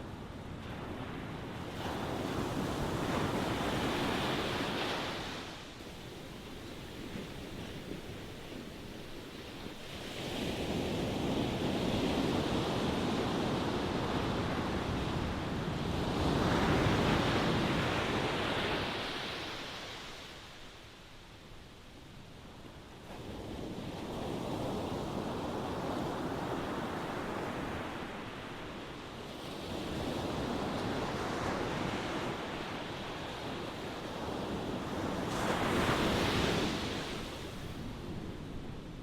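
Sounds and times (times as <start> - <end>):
ocean waves breaking on shore: 0.0 - 21.5, 22.9 - 39.0.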